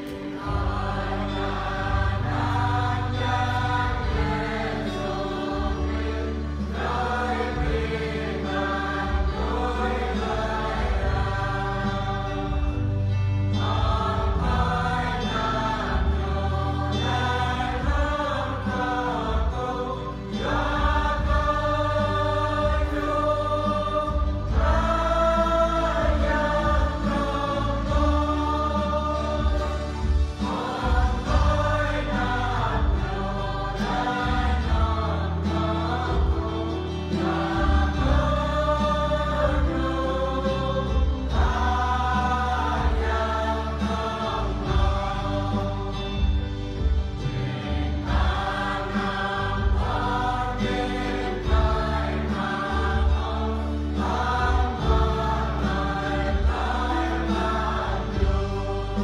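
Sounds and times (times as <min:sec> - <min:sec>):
church choir singing a hymn: 0:00.0 - 0:59.0
low bass notes: 0:00.0 - 0:59.0.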